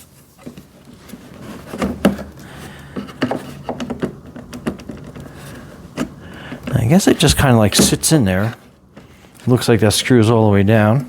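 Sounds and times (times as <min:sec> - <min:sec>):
rubbing and scraping: 0:00.0 - 0:09.4.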